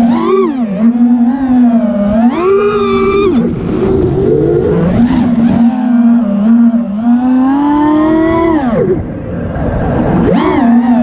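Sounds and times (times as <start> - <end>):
drone motors and propellers whining: 0.0 - 11.0.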